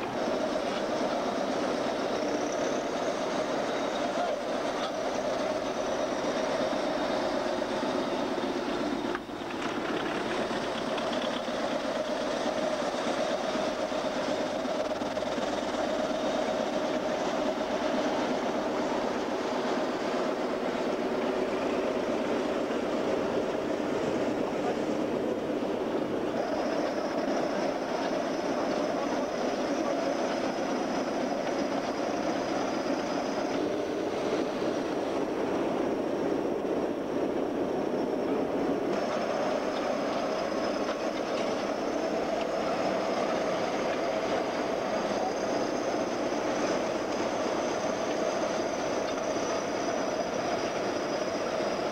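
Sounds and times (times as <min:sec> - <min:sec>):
bulldozer diesel engines running: 0:00.0 - 0:51.9.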